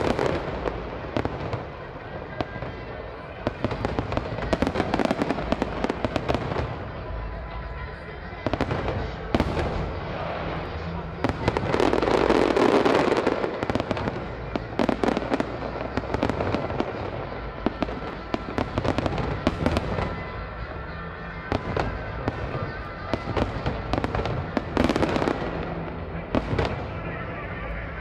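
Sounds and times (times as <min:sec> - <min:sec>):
fireworks bangs: 0:00.0 - 0:07.2, 0:08.4 - 0:28.0
fireworks crackling: 0:00.0 - 0:28.0
music playing: 0:00.0 - 0:28.0.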